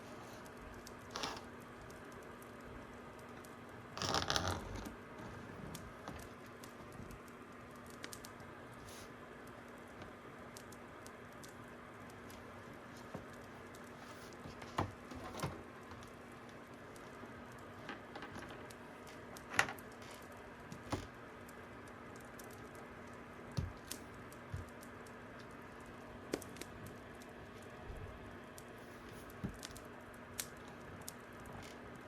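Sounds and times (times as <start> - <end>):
fire crackling: 0.0 - 14.6, 18.6 - 32.0.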